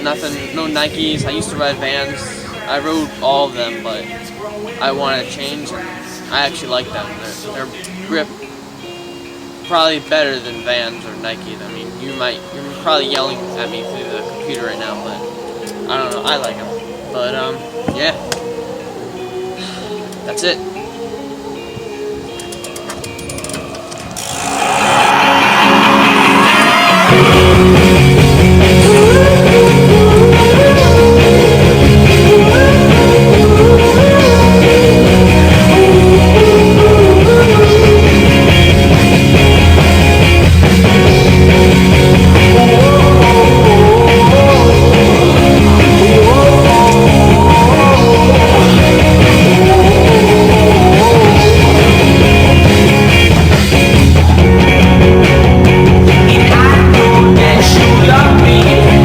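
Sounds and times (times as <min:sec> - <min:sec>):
loud rock music with singing: 0:00.0 - 0:10.3, 0:11.9 - 0:59.0.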